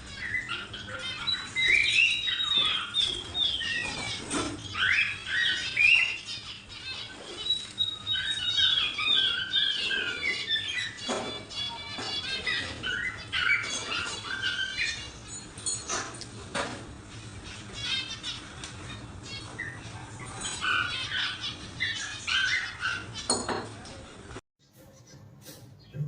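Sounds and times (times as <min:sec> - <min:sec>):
caged birds chirping and squawking: 0:00.0 - 0:26.0.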